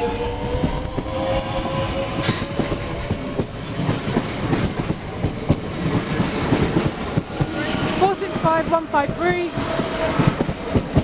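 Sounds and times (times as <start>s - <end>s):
train wheels clicking over rail joints: 0.2s - 11.0s.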